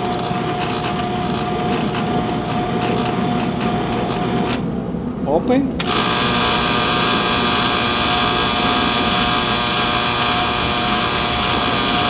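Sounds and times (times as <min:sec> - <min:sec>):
electric motor whirring: 0:00.0 - 0:04.7, 0:05.8 - 0:12.0.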